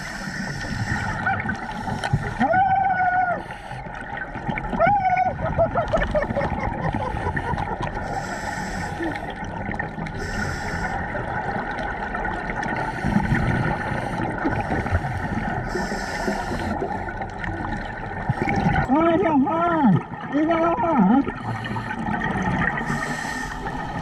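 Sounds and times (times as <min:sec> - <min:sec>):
faint steady hum: 0:00.0 - 0:24.0
scuba bubbles gurgling: 0:00.0 - 0:24.0.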